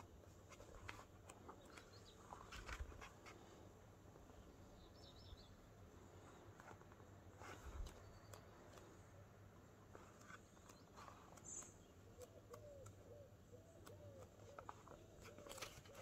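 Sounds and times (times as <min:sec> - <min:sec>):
book pages rustling: 0:00.0 - 0:04.7, 0:06.0 - 0:13.2, 0:13.8 - 0:16.0.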